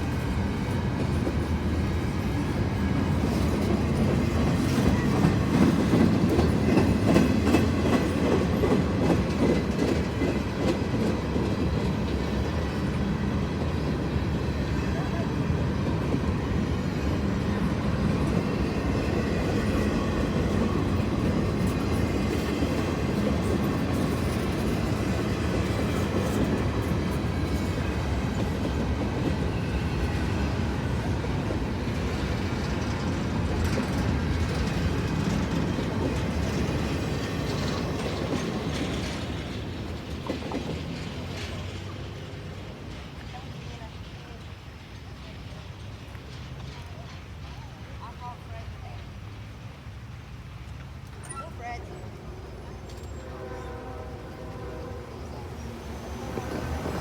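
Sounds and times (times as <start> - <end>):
freight train cars rumbling: 0.0 - 57.0
train wheel clatter: 0.0 - 57.0.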